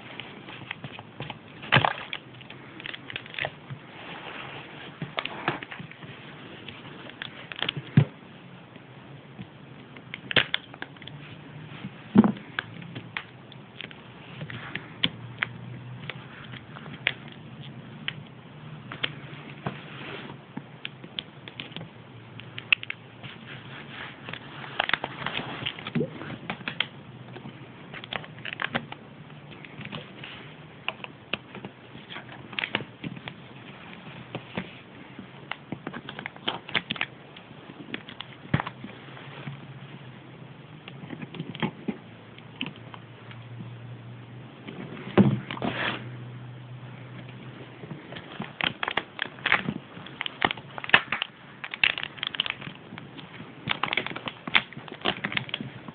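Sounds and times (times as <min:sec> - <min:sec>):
plastic packaging crinkling: 0:00.0 - 0:08.0, 0:10.0 - 0:39.5, 0:47.4 - 0:55.9.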